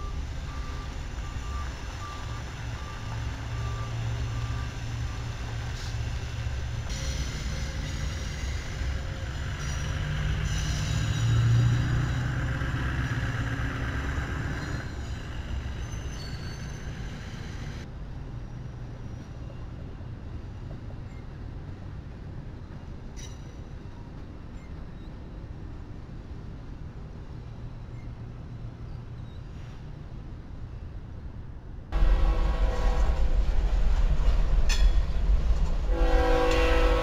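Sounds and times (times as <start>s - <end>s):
train cars rumbling past: 0.0s - 30.7s, 31.6s - 37.0s
diesel locomotive engine drone: 0.0s - 37.0s.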